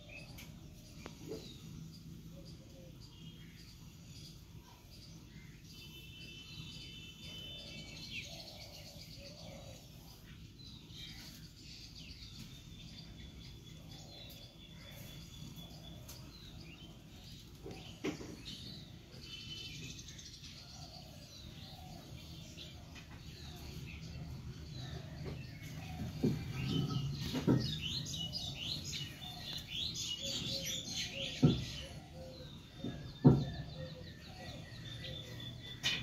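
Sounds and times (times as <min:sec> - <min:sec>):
birds chirping and trilling: 0:00.0 - 0:36.0.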